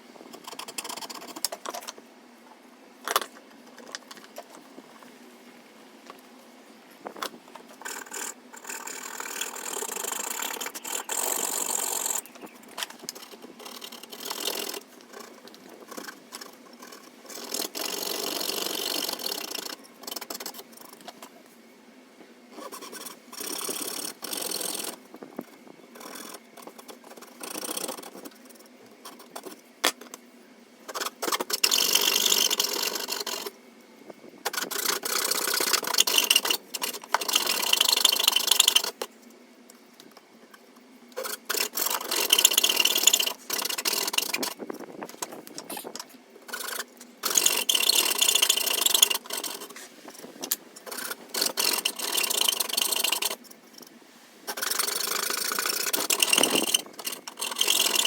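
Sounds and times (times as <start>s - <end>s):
woodworking tools on wood: 0.2s - 2.0s, 7.1s - 21.4s, 22.6s - 30.2s, 30.9s - 33.6s, 34.4s - 39.1s, 41.2s - 58.0s.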